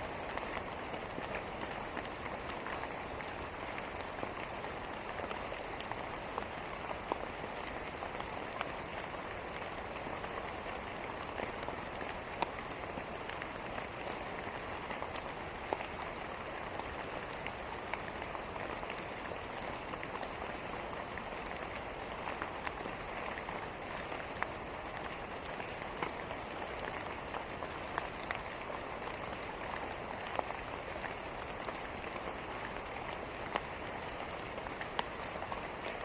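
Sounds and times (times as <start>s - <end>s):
raindrop ticks: 0.0s - 36.0s.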